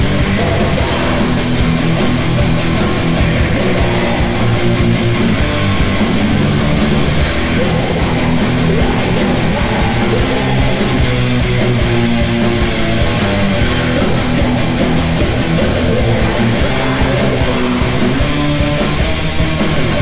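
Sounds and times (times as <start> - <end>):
metal music with distorted guitars: 0.0 - 20.0.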